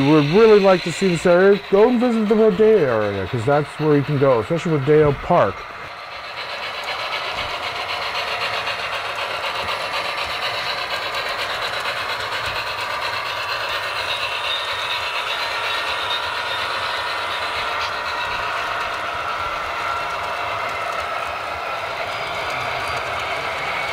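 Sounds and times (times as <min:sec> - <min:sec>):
model train running on track: 0:00.0 - 0:23.9.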